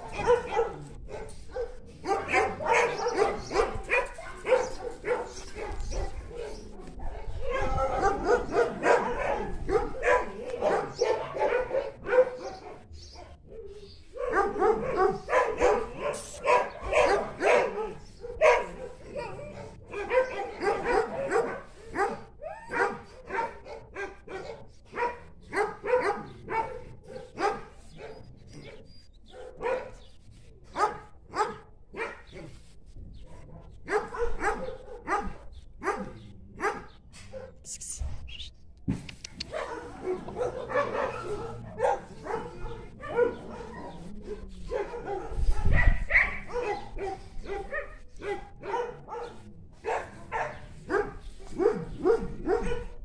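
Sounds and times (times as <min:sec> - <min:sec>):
dog barking: 0:00.0 - 0:30.1, 0:30.7 - 0:32.6, 0:33.3 - 0:37.6, 0:39.3 - 0:53.0.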